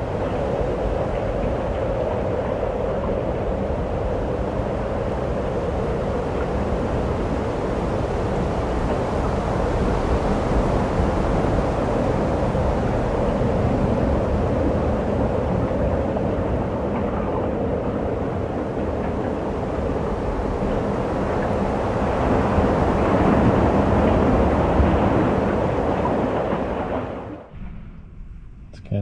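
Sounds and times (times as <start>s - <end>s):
strong wind on microphone: 0.0s - 29.0s.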